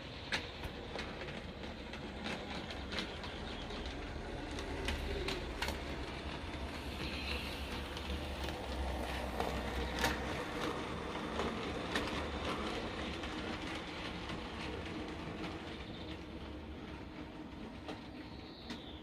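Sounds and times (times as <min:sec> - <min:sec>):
model train motor hum: 0:00.0 - 0:16.6
sharp track clicks: 0:00.0 - 0:19.0.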